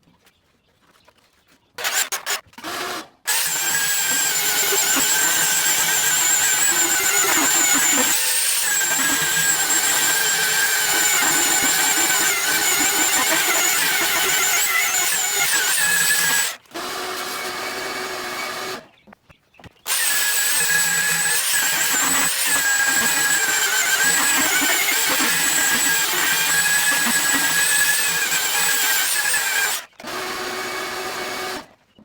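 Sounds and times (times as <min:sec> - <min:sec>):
power tool high whine: 0:03.3 - 0:18.8, 0:20.0 - 0:31.7.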